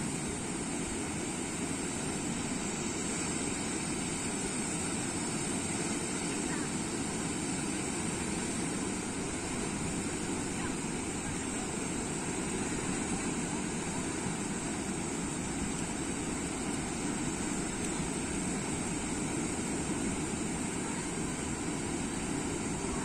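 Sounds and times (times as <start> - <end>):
surf breaking on beach: 0.0 - 23.0.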